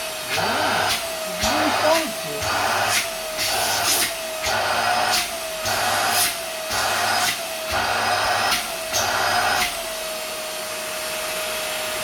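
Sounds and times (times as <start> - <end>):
stick vacuum cleaner running: 0.0 - 12.0.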